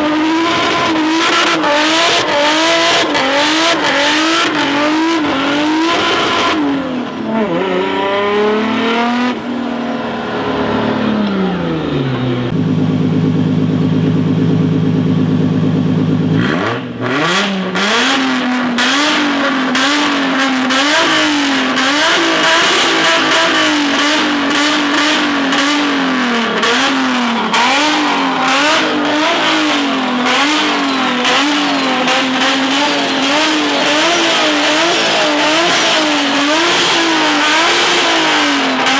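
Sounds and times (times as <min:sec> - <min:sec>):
turbocharged engine revving: 0:00.0 - 0:38.9.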